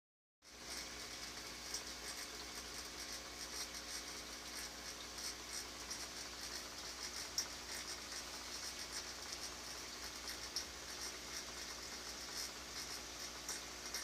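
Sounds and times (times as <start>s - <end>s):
aquarium equipment humming: 0.4s - 14.0s
water and bubbles crackling: 0.5s - 14.0s.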